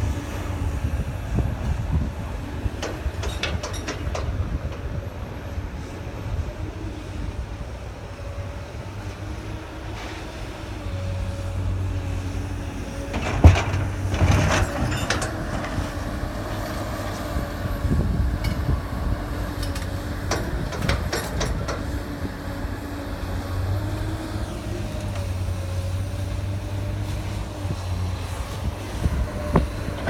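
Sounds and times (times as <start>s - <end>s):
diesel engine rumble: 0.0s - 30.0s.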